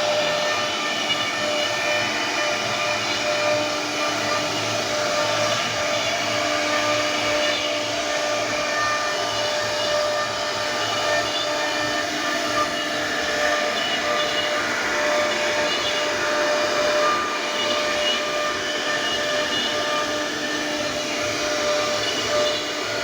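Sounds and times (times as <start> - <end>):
router spindle whine carving wood: 0.0 - 23.0.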